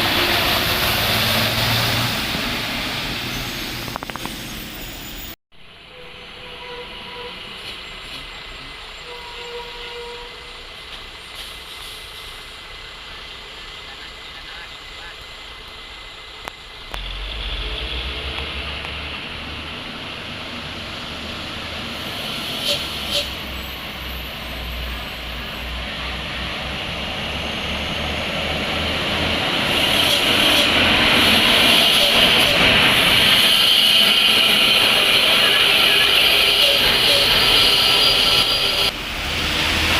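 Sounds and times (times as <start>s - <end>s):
heavy trucks engine and road noise: 0.0s - 39.9s.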